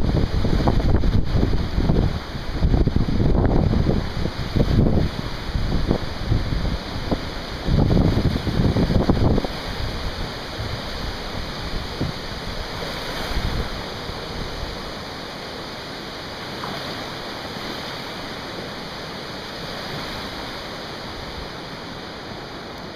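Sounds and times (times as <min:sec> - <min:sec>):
floodwater rushing: 0:00.0 - 0:22.9
wind on microphone: 0:00.0 - 0:22.9.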